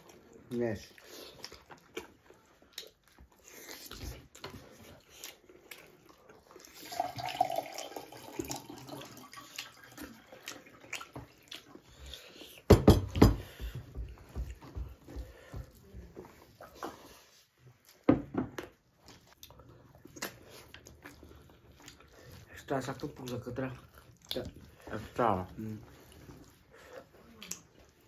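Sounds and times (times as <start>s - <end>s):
wet chewing and lip smacks: 0.0s - 6.8s, 9.4s - 12.7s, 15.3s - 28.0s.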